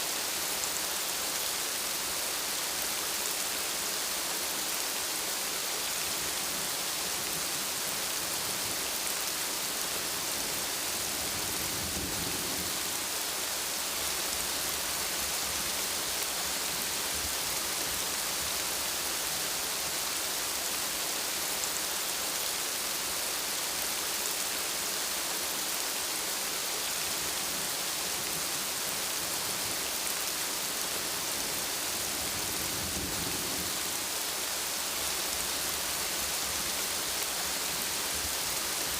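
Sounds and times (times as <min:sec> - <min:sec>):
rain hissing on surfaces: 0:00.0 - 0:38.9.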